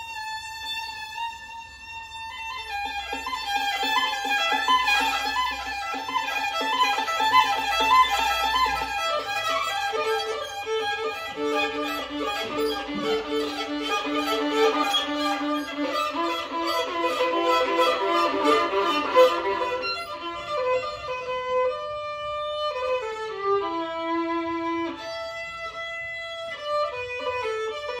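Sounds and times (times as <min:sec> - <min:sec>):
solo violin bowed: 0:00.0 - 0:28.0.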